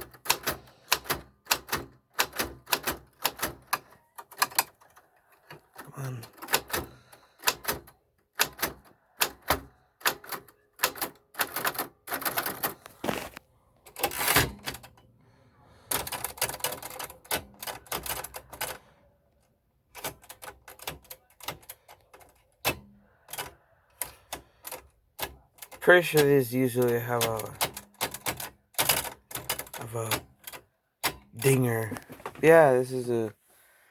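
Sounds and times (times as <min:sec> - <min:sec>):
manual typewriter keys clacking: 0:00.0 - 0:13.3, 0:13.9 - 0:15.0, 0:15.9 - 0:18.9, 0:19.9 - 0:31.9.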